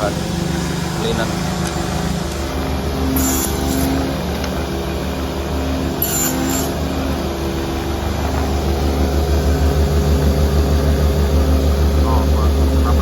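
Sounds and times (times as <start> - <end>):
cutting machine motor humming: 0.0 - 13.0.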